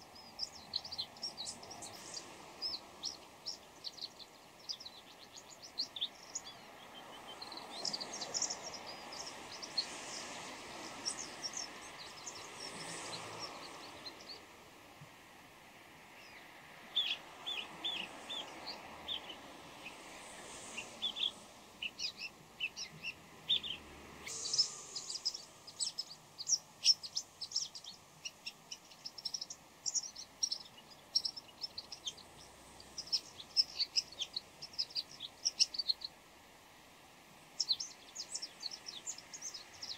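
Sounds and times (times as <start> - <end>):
shrike chirping calls and song: 0.0 - 14.6, 16.1 - 39.9
soft rushing background noise: 0.0 - 39.9.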